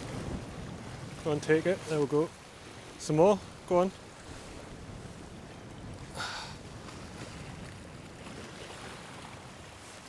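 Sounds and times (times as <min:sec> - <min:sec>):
sea water washing around rocks: 0:00.0 - 0:10.0.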